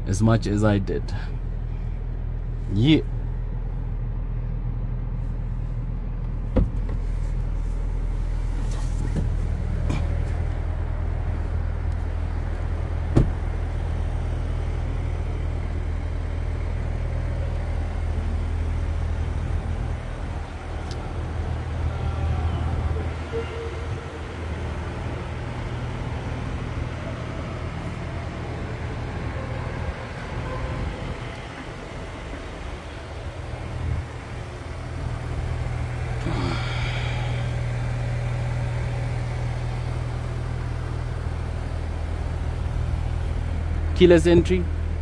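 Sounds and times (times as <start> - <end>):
car engine humming: 0.0 - 45.0.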